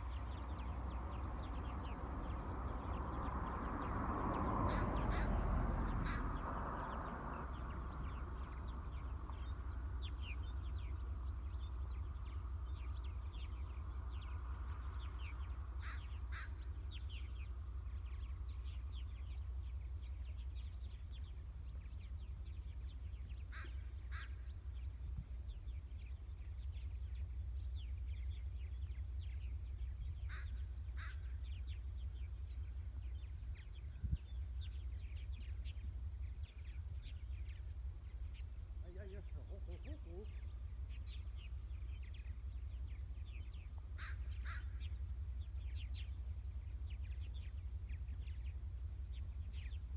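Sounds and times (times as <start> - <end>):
birds calling: 0.0 - 49.9.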